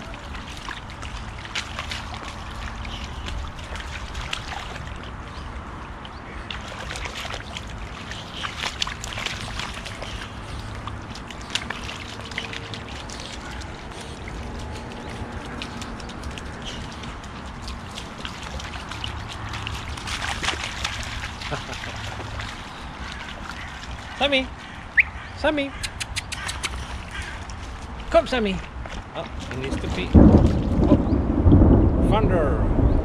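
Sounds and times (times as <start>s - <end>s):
water sloshing: 0.0s - 31.1s
dogs splashing in a puddle: 0.0s - 31.2s.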